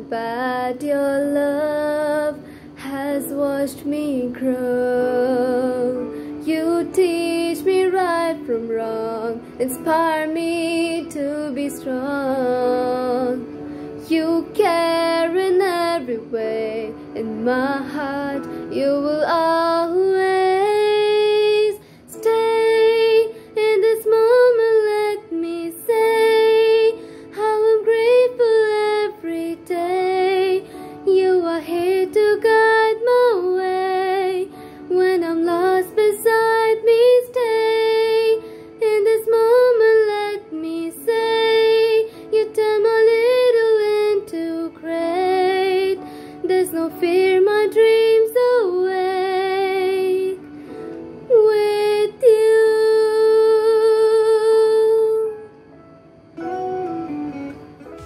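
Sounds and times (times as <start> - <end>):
girl singing a ballad: 0.0 - 55.8.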